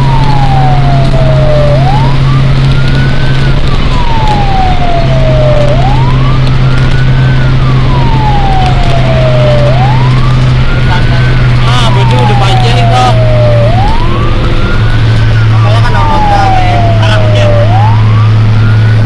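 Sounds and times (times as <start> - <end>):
fire truck siren wailing: 0.0 - 19.0
steady low drone: 0.0 - 19.0.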